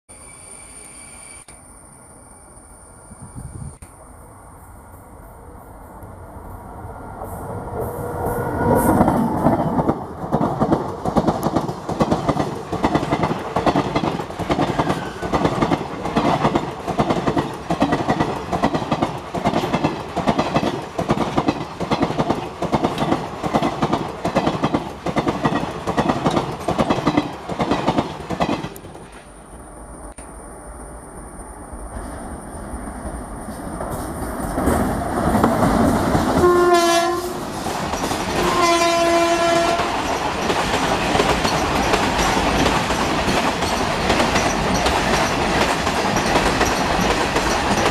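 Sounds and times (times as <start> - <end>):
train passing at speed: 0.1 - 47.9.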